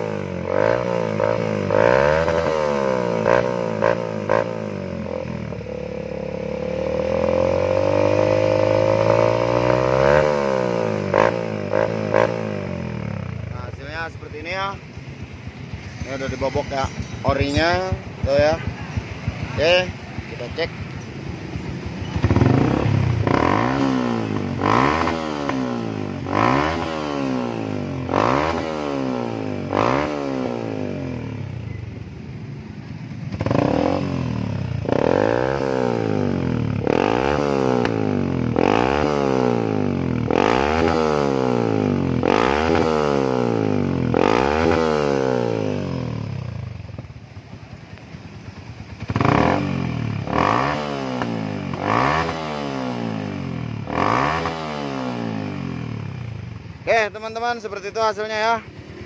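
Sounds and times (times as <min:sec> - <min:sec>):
motorcycle engine idling: 0:00.0 - 0:09.8, 0:10.6 - 0:26.6, 0:30.6 - 0:40.5, 0:41.2 - 0:54.2, 0:55.2 - 0:59.0
motorcycle engine revving: 0:00.0 - 0:59.0.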